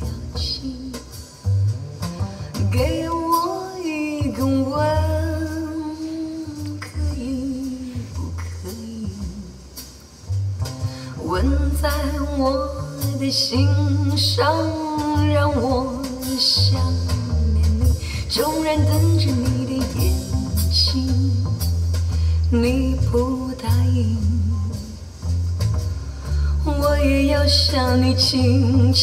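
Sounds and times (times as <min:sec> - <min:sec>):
deep bass notes: 0:00.0 - 0:29.0
song with singer and guitar: 0:00.0 - 0:29.0.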